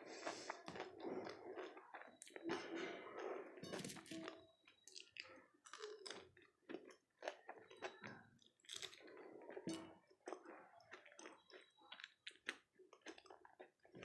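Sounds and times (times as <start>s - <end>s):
chewing crisp food: 0.0s - 14.0s.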